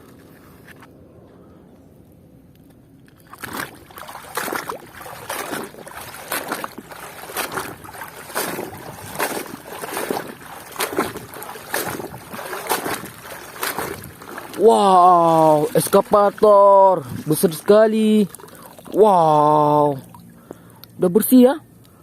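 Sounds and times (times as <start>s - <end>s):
water sloshing and splashing: 3.0s - 21.0s.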